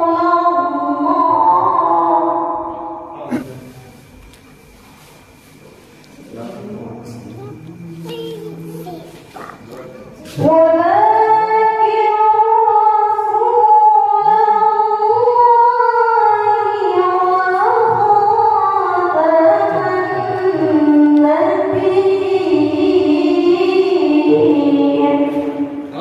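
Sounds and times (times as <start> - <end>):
woman reciting melodically: 0.0 - 3.0, 7.2 - 25.9.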